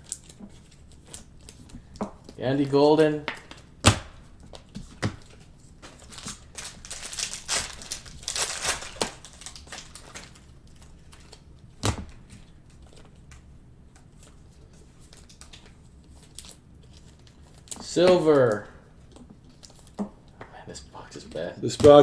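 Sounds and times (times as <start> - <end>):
card wrappers crinkling and rustling: 0.0 - 22.0.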